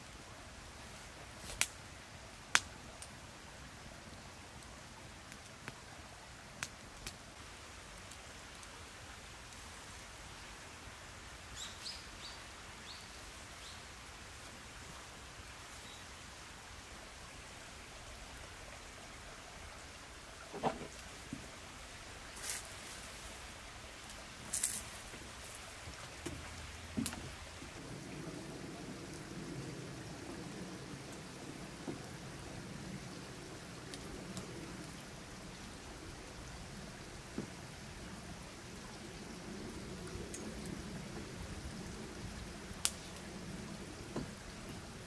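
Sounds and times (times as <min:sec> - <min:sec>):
light rain dripping: 0:00.0 - 0:45.0
low steady background sound: 0:00.0 - 0:45.0.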